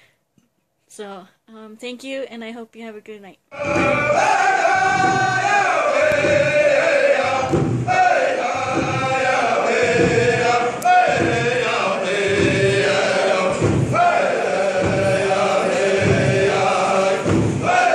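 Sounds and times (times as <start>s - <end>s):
men singing in unison: 3.5s - 17.9s
steady drumbeat: 3.5s - 17.9s.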